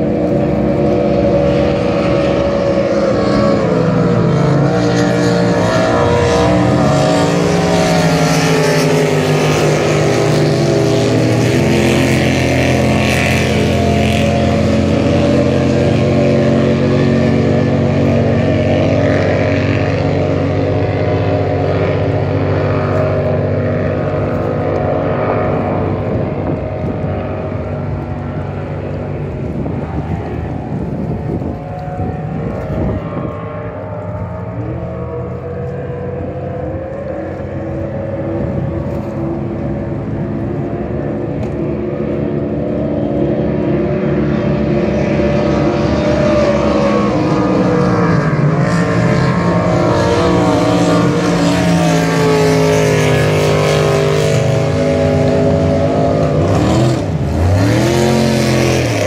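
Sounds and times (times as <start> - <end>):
racing powerboat engines droning: 0.0 - 59.0.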